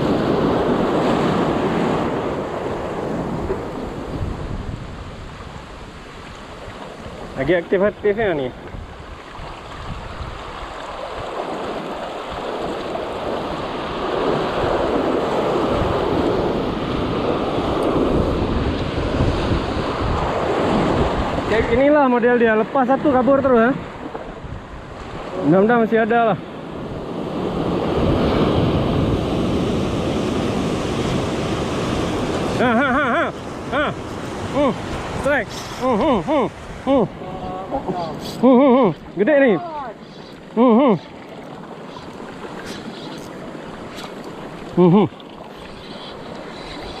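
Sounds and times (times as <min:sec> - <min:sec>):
wind rumbling on microphone: 0:00.0 - 0:22.0, 0:23.0 - 0:25.5, 0:26.7 - 0:47.0.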